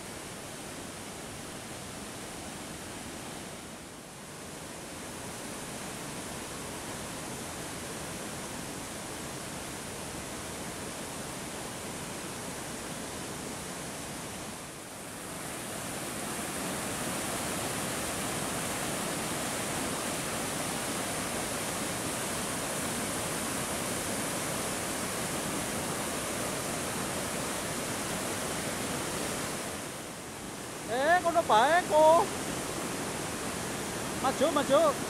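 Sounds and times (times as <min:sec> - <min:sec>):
waterfall and river rapids rushing: 0:00.0 - 0:35.0.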